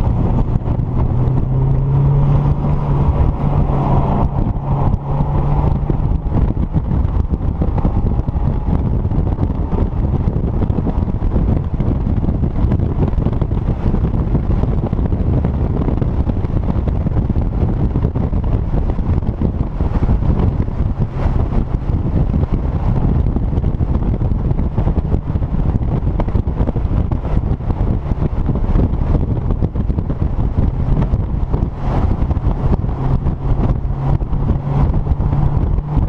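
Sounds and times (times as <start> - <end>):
car engine at speed: 0.0 - 36.0
wind buffeting microphone: 0.0 - 36.0.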